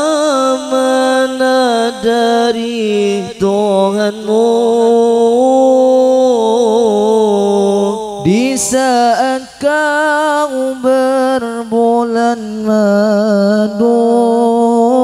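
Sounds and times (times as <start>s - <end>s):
man chanting through loudspeakers: 0.0s - 15.0s.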